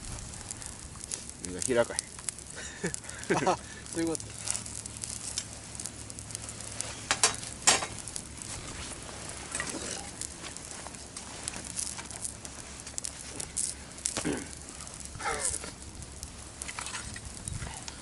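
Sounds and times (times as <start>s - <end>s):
sharp fire cracks: 0.0s - 18.0s
wood fire crackling: 0.0s - 18.0s.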